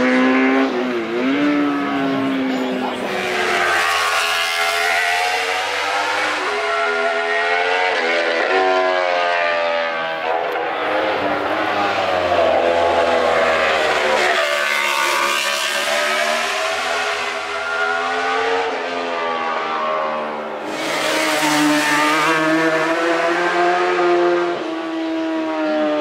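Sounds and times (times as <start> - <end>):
racing motorcycles passing: 0.0 - 26.0.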